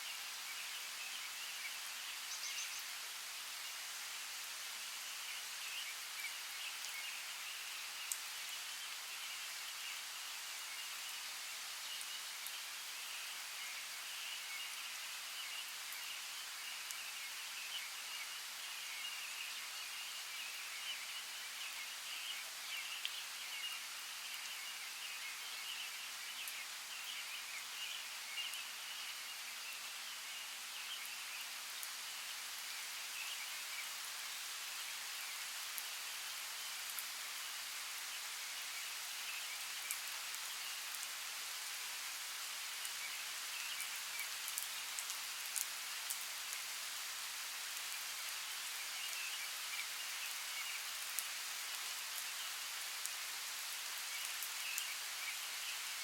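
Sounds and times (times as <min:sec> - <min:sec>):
rain hissing and pattering: 0:00.0 - 0:56.0.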